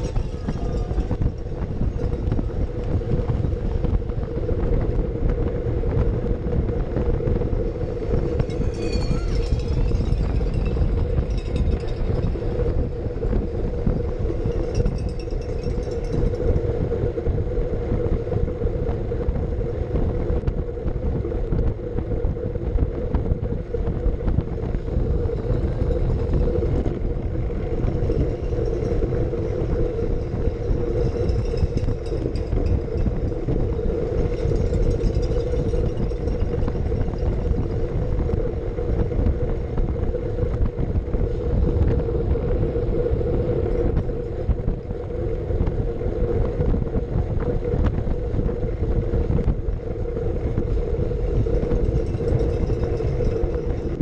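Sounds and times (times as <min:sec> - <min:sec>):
steady hum: 0:00.0 - 0:54.0
tyre road rumble: 0:00.0 - 0:54.0
wind rushing over microphone: 0:00.0 - 0:54.0.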